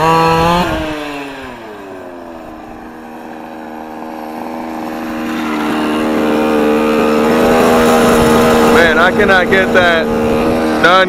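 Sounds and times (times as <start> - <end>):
rc truck two-stroke engine: 0.0 - 11.0.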